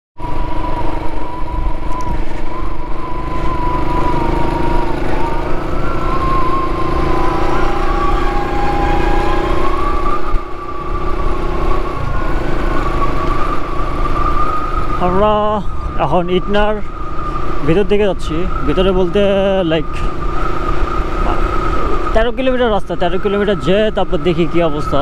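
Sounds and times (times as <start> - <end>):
motorcycle engine drone: 0.2 - 25.0
whine: 0.2 - 25.0.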